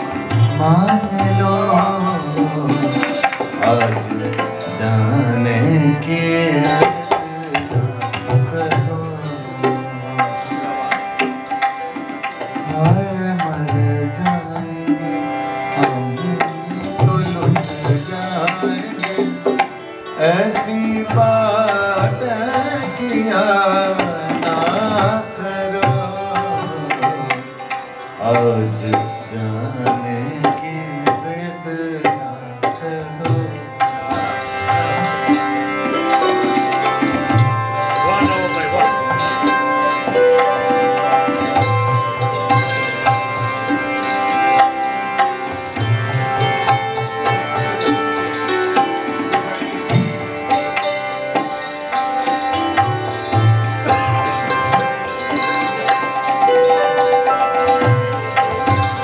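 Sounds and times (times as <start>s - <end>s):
tabla playing: 0.0s - 59.0s.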